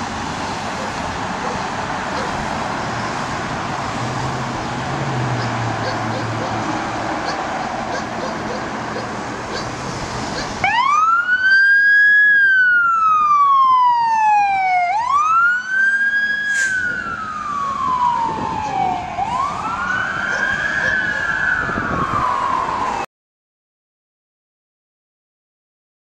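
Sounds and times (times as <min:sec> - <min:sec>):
fire engine siren wailing: 0:00.0 - 0:23.1
traffic noise: 0:00.0 - 0:23.1.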